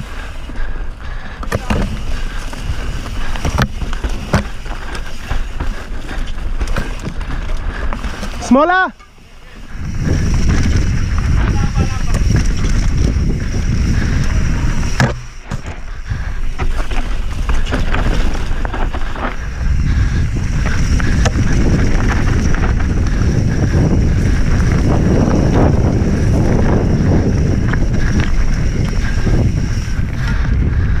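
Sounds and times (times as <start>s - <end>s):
wind rumbling on microphone: 0.0s - 8.6s, 9.2s - 31.0s
tyres crunching over gravel: 0.0s - 30.2s
bike rattling over bumps: 0.0s - 31.0s.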